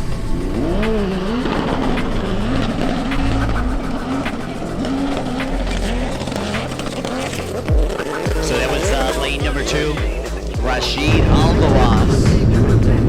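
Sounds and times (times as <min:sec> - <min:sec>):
jet ski engines at full throttle: 0:00.0 - 0:13.0.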